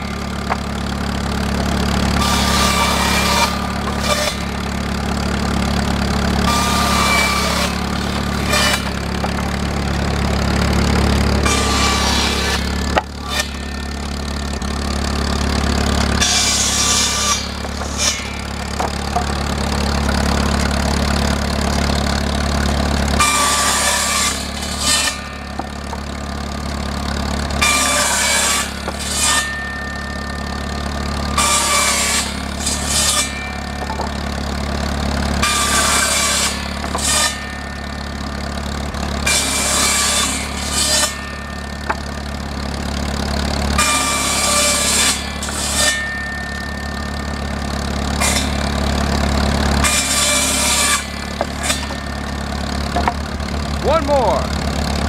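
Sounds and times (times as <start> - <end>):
circular saw cutting wood: 0.0 - 55.0
engine droning: 0.0 - 55.0.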